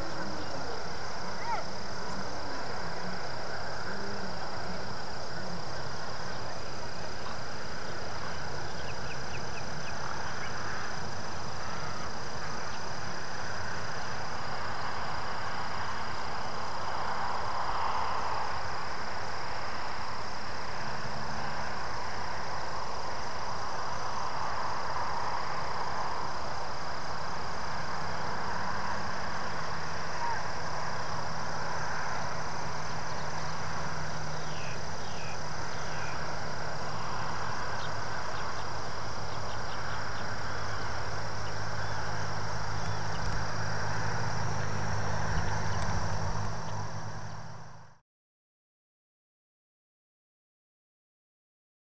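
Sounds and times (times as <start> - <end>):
background hiss: 0.0 - 47.9
high-pitched insect drone: 0.0 - 48.0
low steady hum: 0.0 - 48.0.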